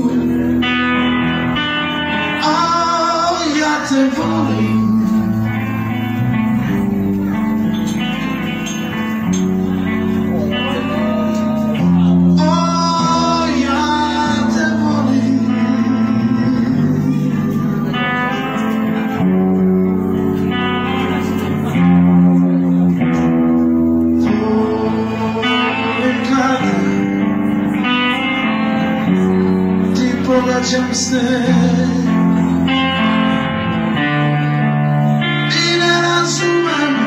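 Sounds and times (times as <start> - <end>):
electric guitar lines: 0.0 - 37.0.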